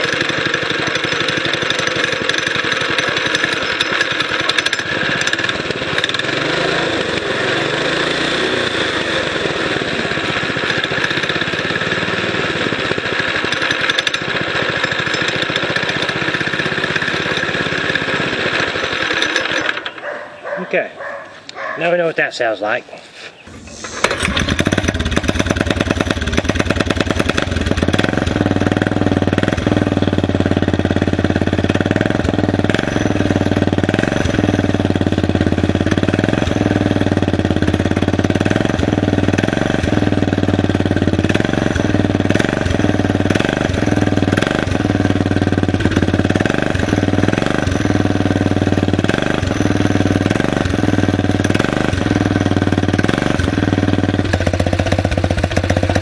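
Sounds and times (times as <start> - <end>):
mini bike engine running: 0.0 - 21.8, 23.5 - 56.0.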